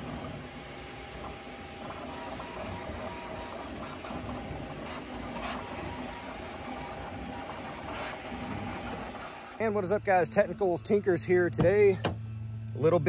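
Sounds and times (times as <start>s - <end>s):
three-d printer humming: 0.0s - 12.0s.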